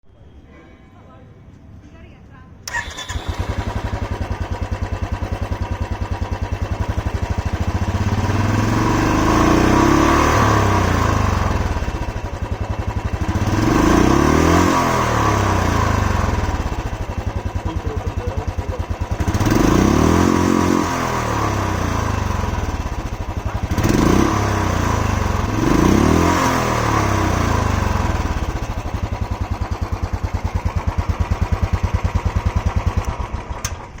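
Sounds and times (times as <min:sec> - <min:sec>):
motorcycle engine idling and revving: 0:02.7 - 0:34.0.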